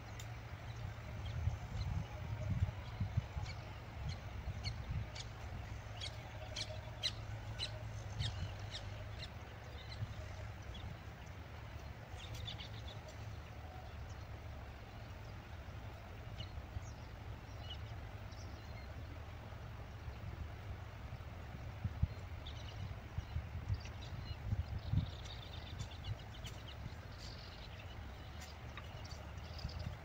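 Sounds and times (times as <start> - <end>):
small birds chirping: 0.0 - 19.2, 21.8 - 30.0
steady low rumble: 0.0 - 30.0.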